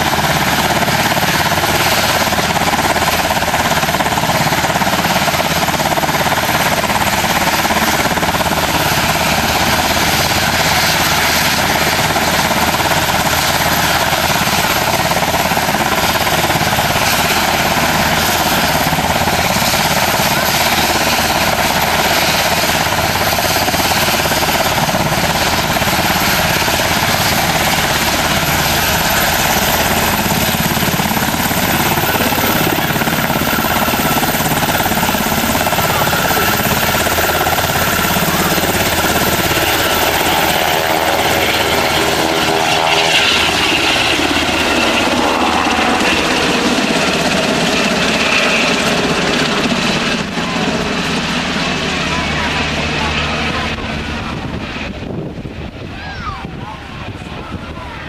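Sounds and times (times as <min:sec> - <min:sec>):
helicopter engine whine: 0:00.0 - 0:58.0
helicopter rotor chop: 0:00.0 - 0:58.0.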